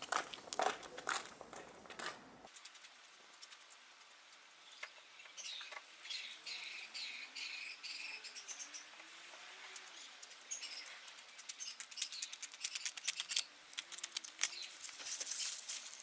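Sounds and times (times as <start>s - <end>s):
small birds chirping: 2.5s - 16.0s.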